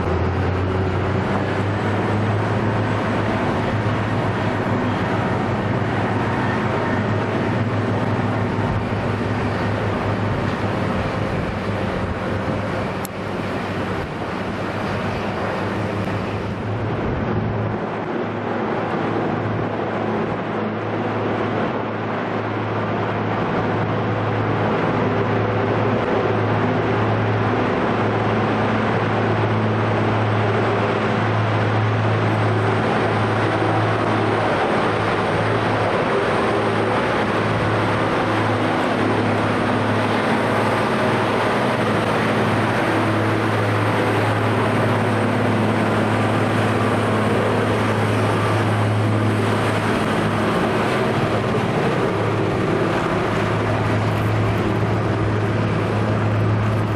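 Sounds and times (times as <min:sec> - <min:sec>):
diesel truck engine drone: 0:00.0 - 0:56.9.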